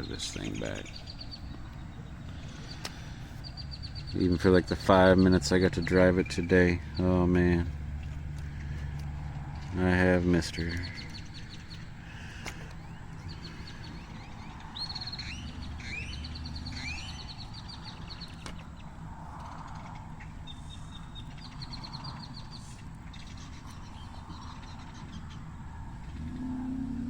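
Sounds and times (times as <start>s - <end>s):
low steady hum: 0.0s - 27.0s
small birds singing: 0.0s - 27.0s.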